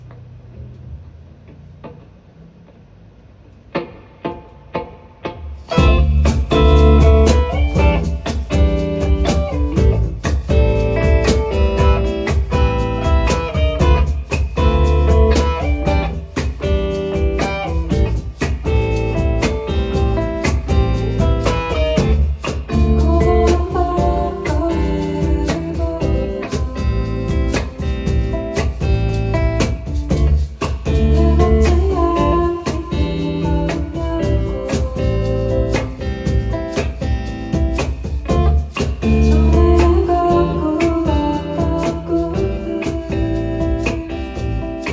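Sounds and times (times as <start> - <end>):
acoustic guitar: 5.5 - 44.9
deep bass line: 5.8 - 44.9.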